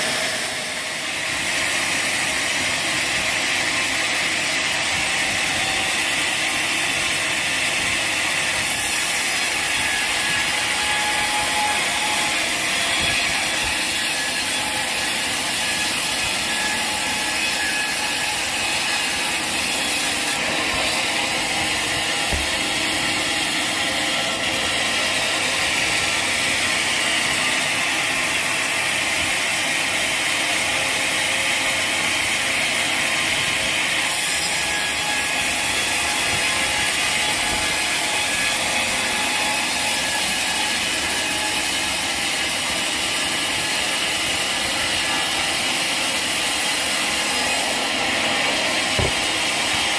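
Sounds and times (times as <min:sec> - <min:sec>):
sawmill saw and machinery running: 0:00.0 - 0:49.9.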